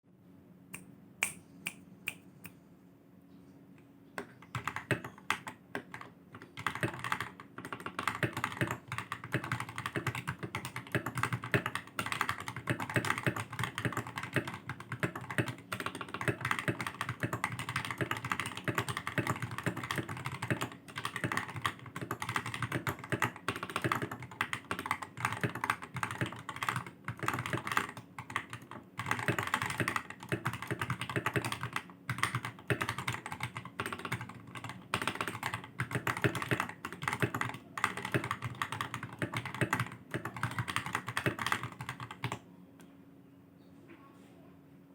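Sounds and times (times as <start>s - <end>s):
mechanical keyboard typing: 4.2s - 42.4s.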